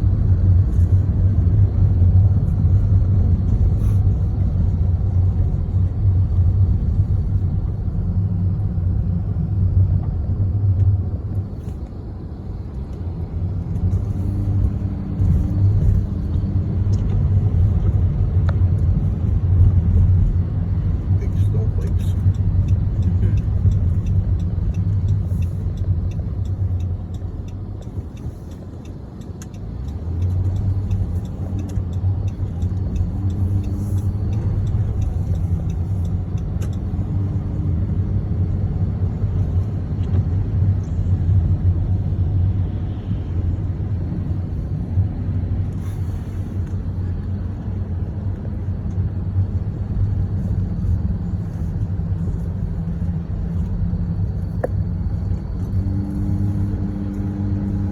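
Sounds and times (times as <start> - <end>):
car driving rumble inside cabin: 0.0 - 57.9.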